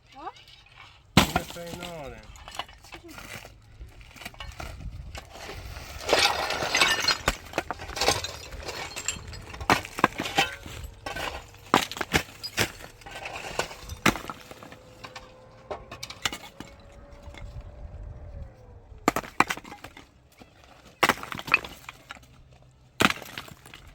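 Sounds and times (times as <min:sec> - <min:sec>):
wood debris scraping clatter: 0:00.1 - 0:23.9
wood knocks and cracks: 0:01.2 - 0:03.5, 0:04.1 - 0:17.5, 0:19.0 - 0:22.4, 0:23.0 - 0:23.9.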